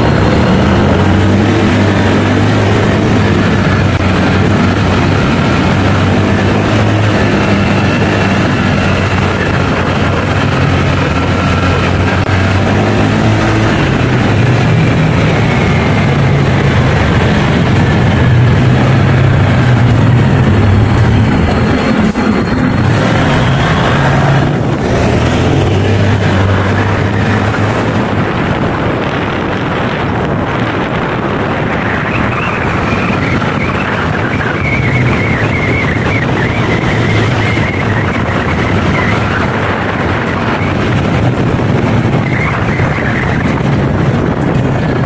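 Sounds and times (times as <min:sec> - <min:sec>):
scooter engine cruising: 0:00.0 - 0:45.0
wind and road noise: 0:00.0 - 0:45.0.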